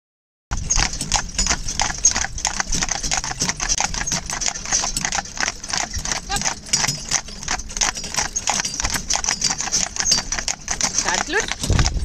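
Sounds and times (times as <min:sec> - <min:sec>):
horse hooves trotting on pavement: 0:00.5 - 0:12.0.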